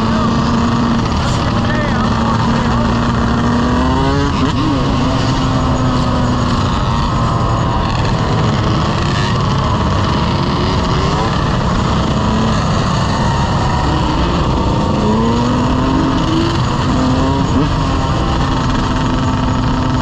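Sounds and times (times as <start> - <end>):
motorcycle engine revving: 0.0 - 20.0
rushing wind: 0.0 - 20.0.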